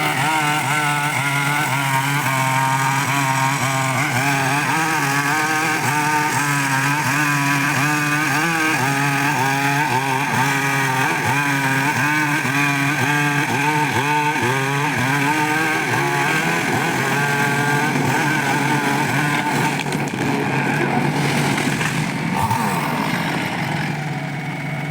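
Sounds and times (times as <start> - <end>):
chainsaw engine under load: 0.0 - 24.9.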